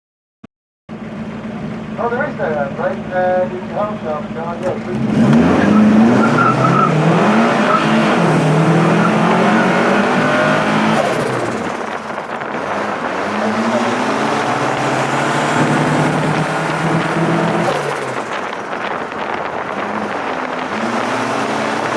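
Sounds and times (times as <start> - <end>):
car engines revving: 0.9 - 21.9.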